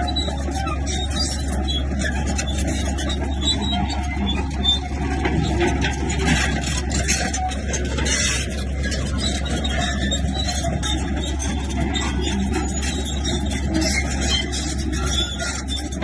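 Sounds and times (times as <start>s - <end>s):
bulldozer diesel engine running: 0.0s - 16.0s
tracks and blade scraping rock: 0.0s - 16.0s.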